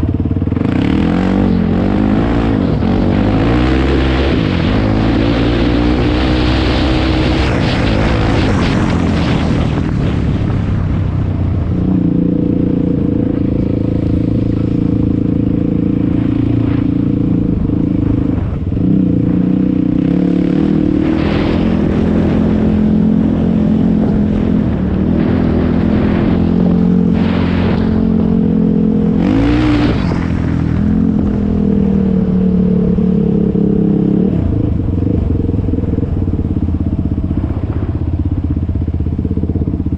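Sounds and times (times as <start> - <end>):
atv engine cruising: 0.0 - 39.9
rushing noise: 0.5 - 39.7.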